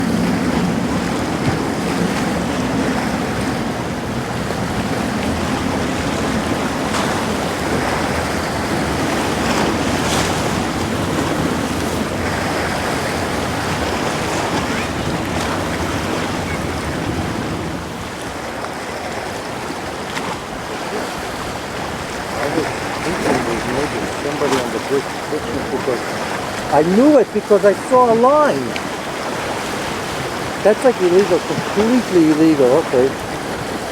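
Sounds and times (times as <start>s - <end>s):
water noise: 0.0s - 33.9s
wind buffeting microphone: 0.0s - 33.9s.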